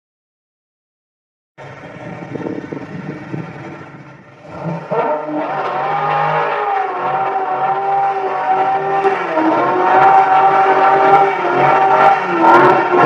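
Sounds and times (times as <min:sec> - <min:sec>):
car engine starting and revving: 0:01.6 - 0:13.0.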